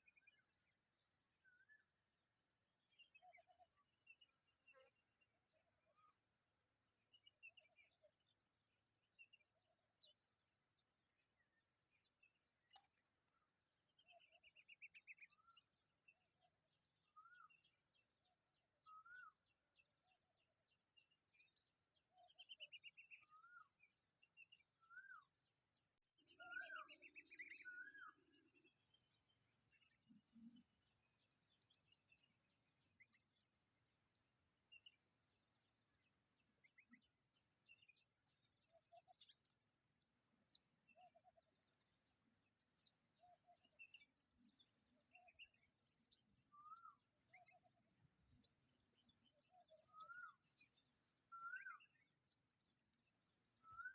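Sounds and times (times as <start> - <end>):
crickets droning: 0.0 - 53.9.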